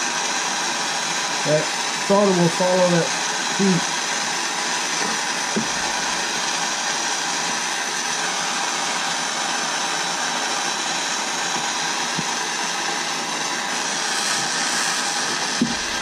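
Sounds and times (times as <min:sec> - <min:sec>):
gas torch hissing: 0:00.0 - 0:16.0.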